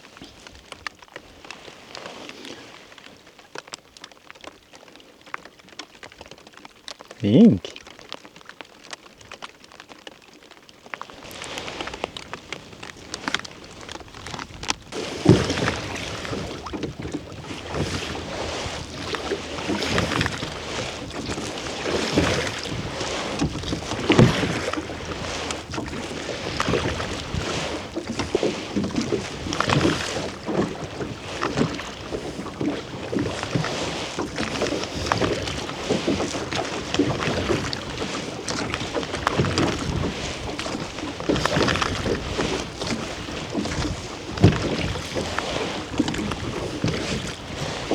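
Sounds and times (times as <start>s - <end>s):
water sounds: 4.8s - 7.9s, 10.9s - 47.9s.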